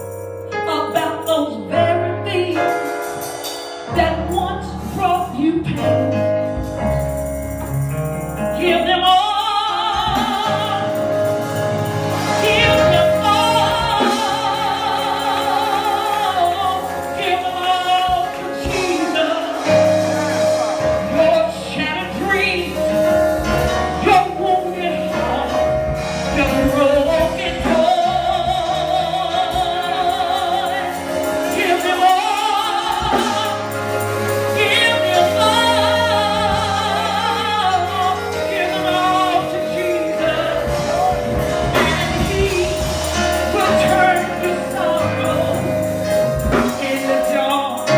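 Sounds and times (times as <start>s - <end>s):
instrumental accompaniment: 0.0s - 47.9s.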